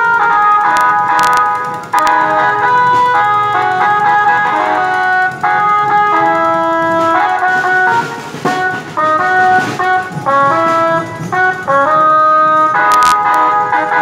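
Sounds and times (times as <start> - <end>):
procession brass band music: 0.0 - 14.0.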